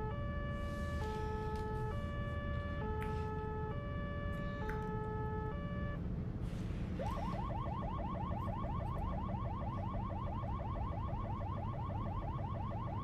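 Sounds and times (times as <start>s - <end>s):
ambulance two-tone siren: 0.0s - 6.2s, 6.8s - 13.0s
low road rumble: 0.0s - 13.0s.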